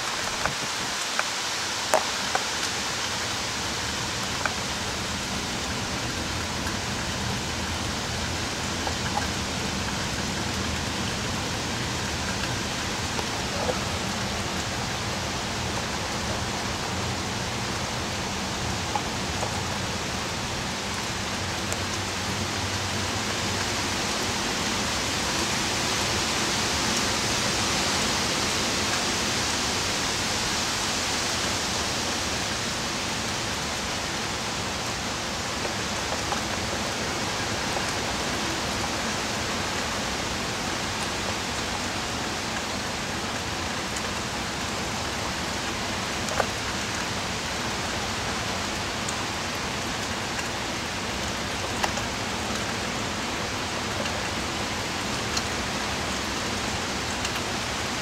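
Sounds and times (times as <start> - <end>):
heavy rain rushing: 0.0 - 58.0
wind: 0.0 - 58.0.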